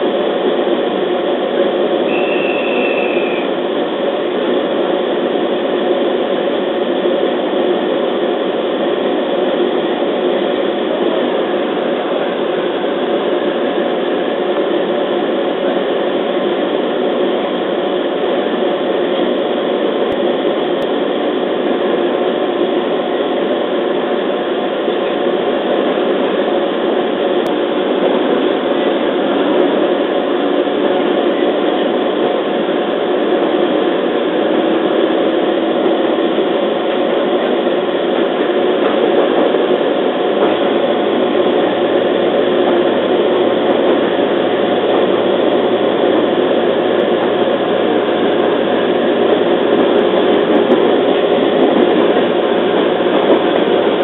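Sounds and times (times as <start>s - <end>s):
electric train running: 0.0s - 54.0s.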